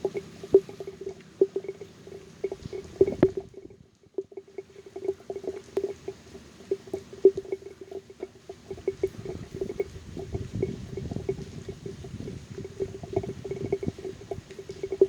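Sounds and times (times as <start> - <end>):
raindrops plinking on a phone: 0.0 - 15.0.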